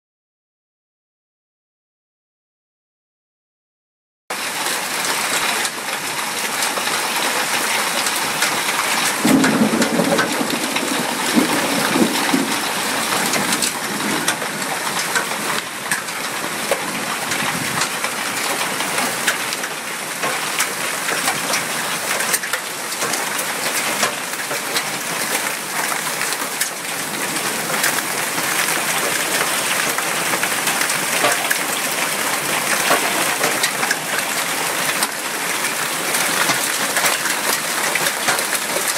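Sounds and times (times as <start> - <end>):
hailstones striking ground: 4.4 - 38.9.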